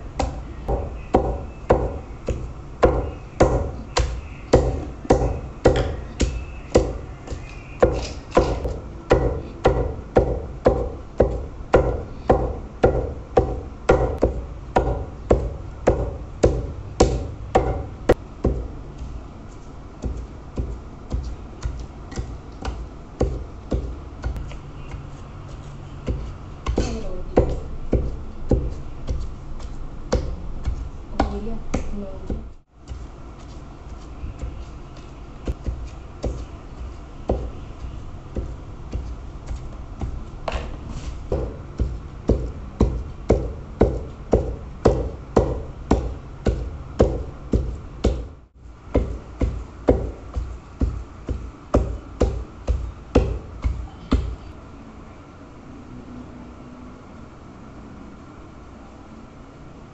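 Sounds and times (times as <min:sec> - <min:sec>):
pestle pounding in stone mortar: 0:00.1 - 0:19.2, 0:20.0 - 0:54.5.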